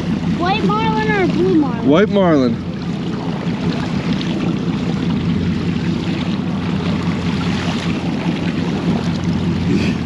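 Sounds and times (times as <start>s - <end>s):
boat engine running: 0.0s - 10.0s
water rushing along hull: 0.0s - 10.0s.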